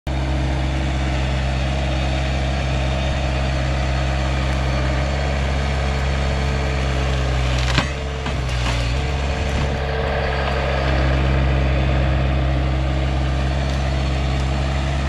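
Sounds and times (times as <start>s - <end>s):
skid steer engine running: 0.1s - 15.0s.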